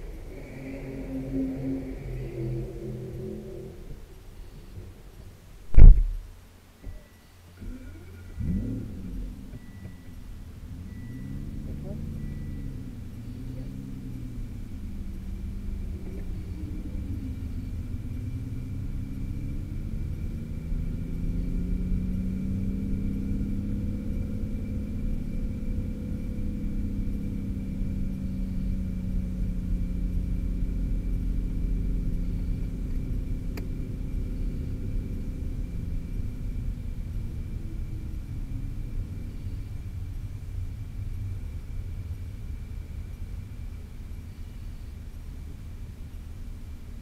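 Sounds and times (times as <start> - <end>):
car engine droning at low revs: 0.0 - 47.0.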